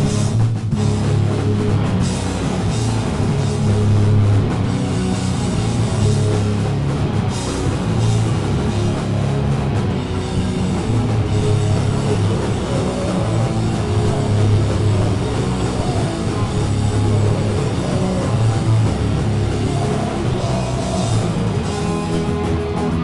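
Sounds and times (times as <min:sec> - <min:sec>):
heavy rock band playing: 0:00.0 - 0:23.0.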